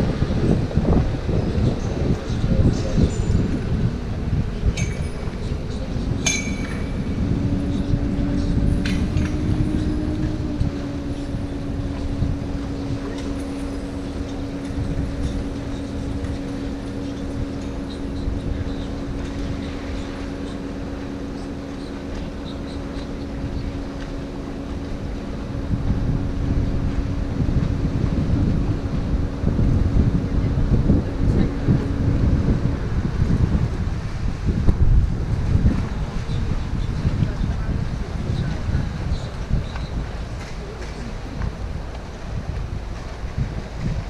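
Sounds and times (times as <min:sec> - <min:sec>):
boat engine humming: 0:00.0 - 0:44.0.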